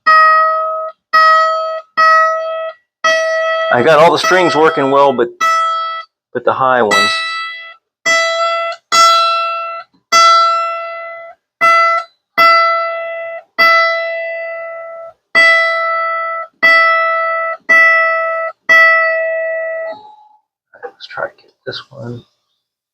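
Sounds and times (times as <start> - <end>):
mandolin strings plucked: 0.0 - 21.0.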